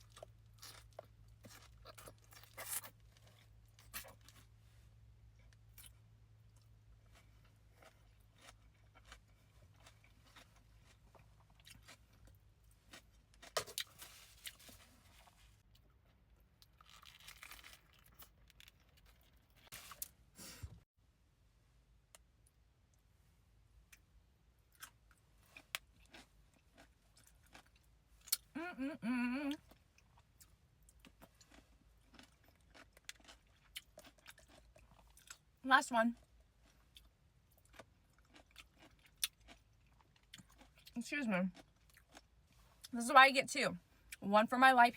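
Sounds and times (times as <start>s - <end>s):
person chewing crunchy food: 0.0s - 4.6s, 5.3s - 20.6s, 24.7s - 35.6s, 36.2s - 42.9s.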